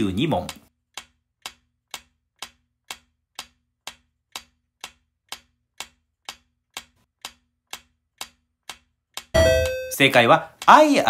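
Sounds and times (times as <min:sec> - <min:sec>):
clock-like timer ticks: 0:00.0 - 0:11.0.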